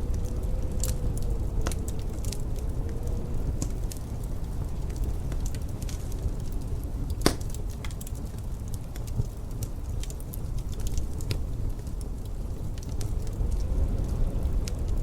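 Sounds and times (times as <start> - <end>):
low wind rumble: 0.0 - 15.0
wood fire crackling and popping: 0.0 - 15.0.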